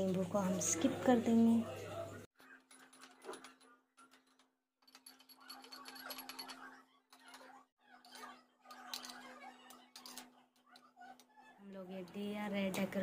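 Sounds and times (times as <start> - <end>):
spoon scraping steel bowl: 2.4 - 13.0.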